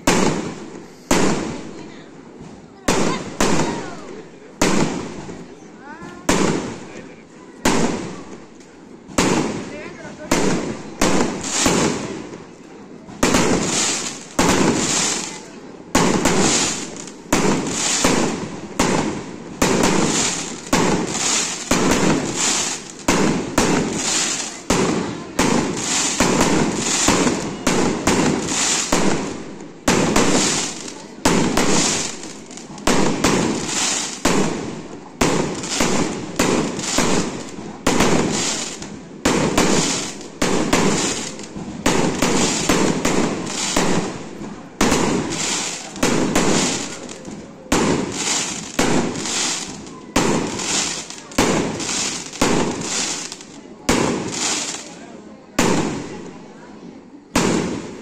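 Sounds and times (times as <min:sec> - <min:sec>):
firecrackers banging: 0:00.0 - 0:56.5, 0:57.1 - 0:58.0.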